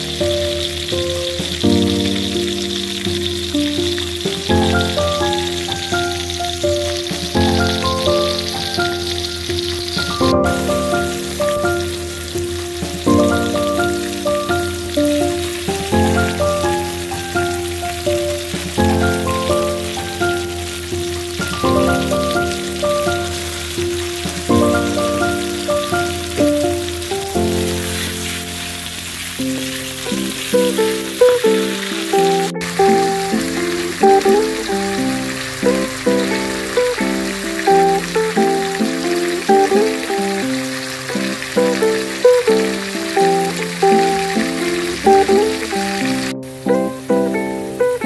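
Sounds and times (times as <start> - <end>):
background music: 0.0 - 48.0
vegetables sizzling in oil: 0.0 - 48.0.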